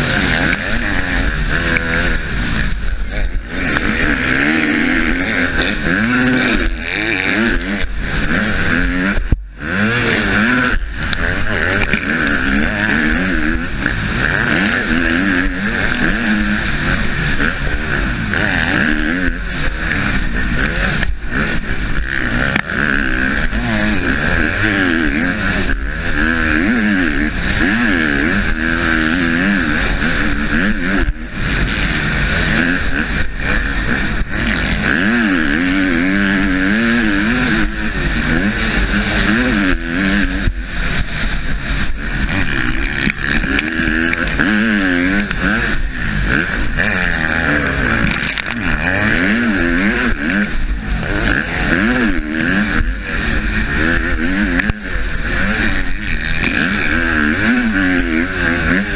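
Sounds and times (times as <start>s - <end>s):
motocross bike engine revving: 0.0s - 58.9s
rushing wind: 0.0s - 58.9s.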